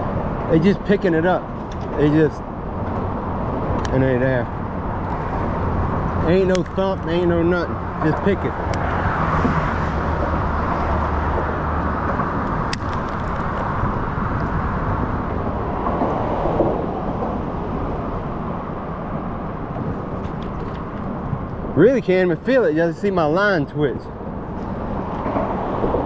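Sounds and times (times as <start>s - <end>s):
road traffic rumble on bridge: 0.0s - 26.0s.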